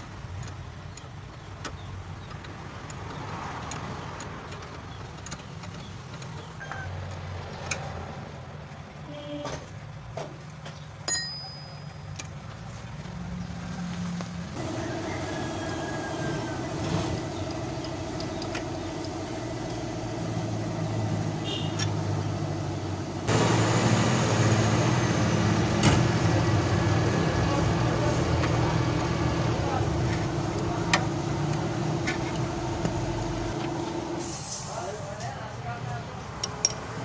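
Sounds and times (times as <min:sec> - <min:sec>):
vehicle engine idling: 0:00.0 - 0:11.1, 0:11.8 - 0:37.0.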